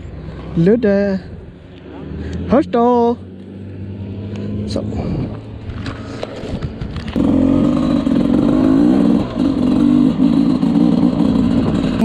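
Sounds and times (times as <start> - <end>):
dirt bike engine revving: 1.9 - 12.0.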